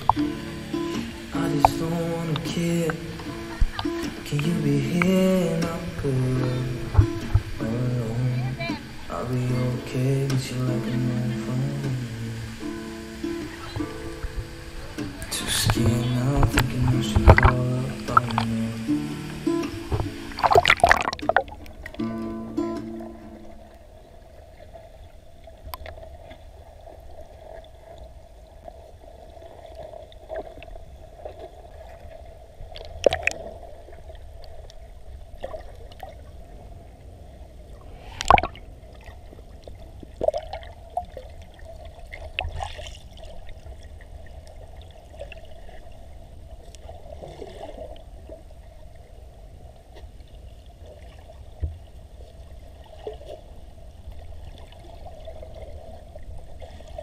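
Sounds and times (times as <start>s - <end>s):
muffled underwater rush: 0.0s - 57.0s.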